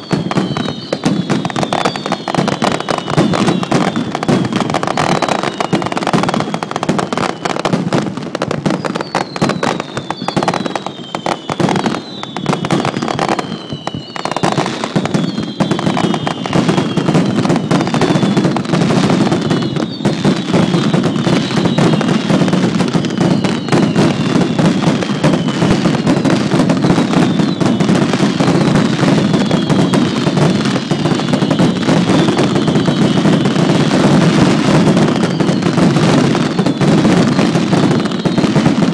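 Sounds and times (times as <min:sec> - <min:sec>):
shrill falling whistles: 0:00.0 - 0:07.7, 0:08.6 - 0:33.9
fireworks crackling: 0:00.0 - 0:38.9.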